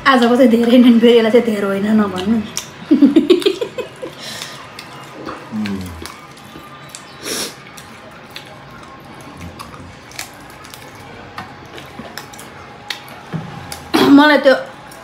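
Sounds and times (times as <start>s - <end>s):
people chewing and lip smacking: 1.8s - 15.0s.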